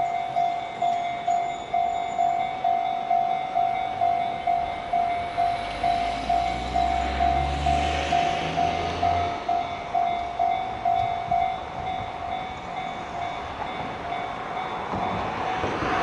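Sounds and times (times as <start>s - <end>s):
level-crossing warning bell ringing: 0.0s - 16.0s
train rumble: 0.0s - 16.0s.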